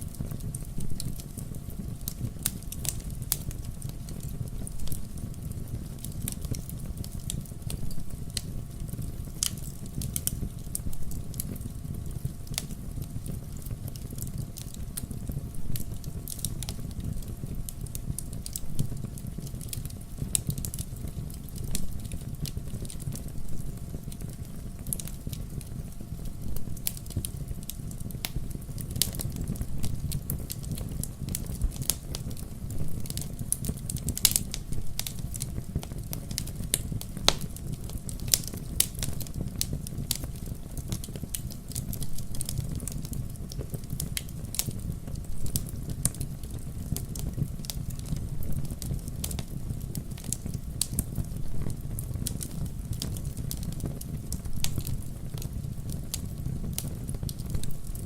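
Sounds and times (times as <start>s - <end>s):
logs crackling in fireplace: 0.0s - 58.0s.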